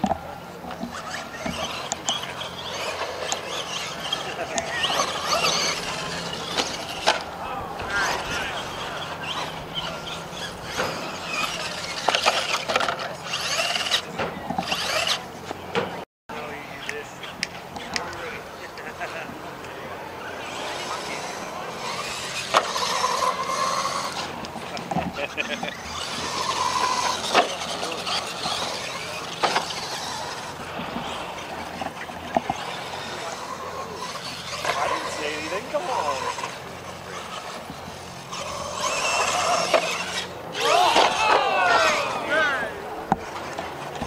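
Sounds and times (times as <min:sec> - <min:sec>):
electric motor whining: 0:00.0 - 0:16.0, 0:16.6 - 0:44.0
rc truck electric drivetrain: 0:00.0 - 0:44.0.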